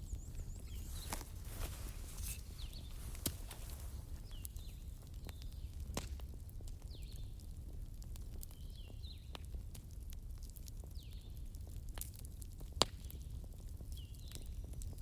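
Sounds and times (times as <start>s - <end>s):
bonfire crackling: 0.0s - 14.5s.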